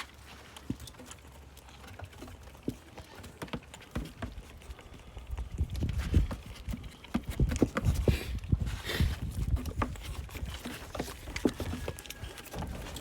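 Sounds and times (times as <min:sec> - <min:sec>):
goat hooves clattering: 0:00.0 - 0:13.0.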